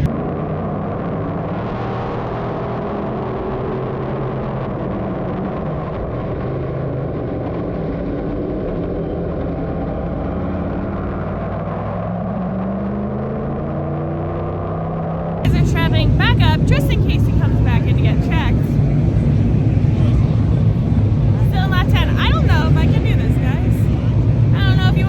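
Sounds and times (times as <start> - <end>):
race car engines running: 0.0 - 25.0.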